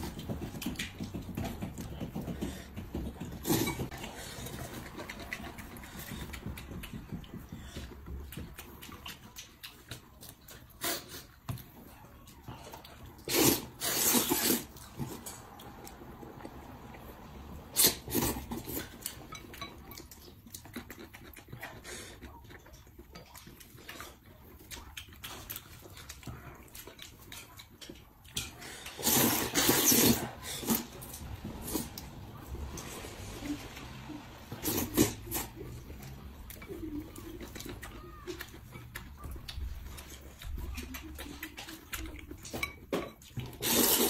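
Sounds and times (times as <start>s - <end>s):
noodles being slurped: 0.0s - 6.6s, 8.4s - 11.5s, 13.0s - 22.2s, 23.5s - 44.0s
quiet chewing: 0.0s - 44.0s.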